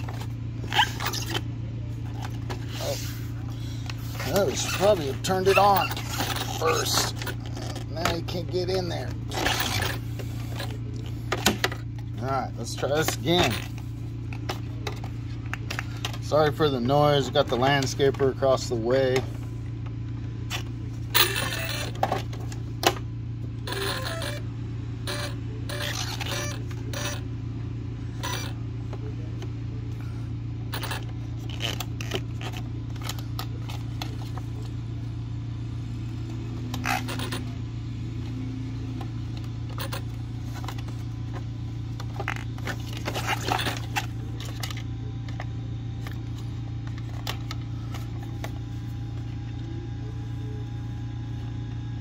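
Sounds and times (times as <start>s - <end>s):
powered machine droning: 0.0s - 52.0s.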